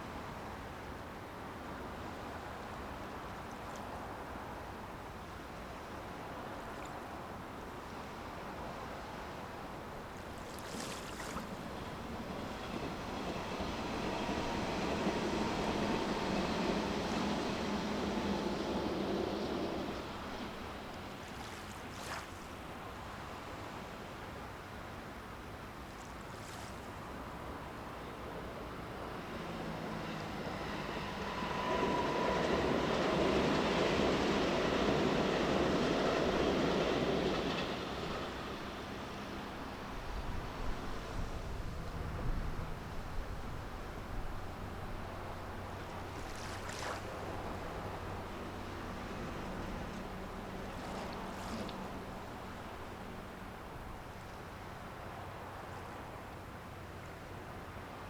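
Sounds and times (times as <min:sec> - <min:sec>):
train passing: 0:00.0 - 0:58.0.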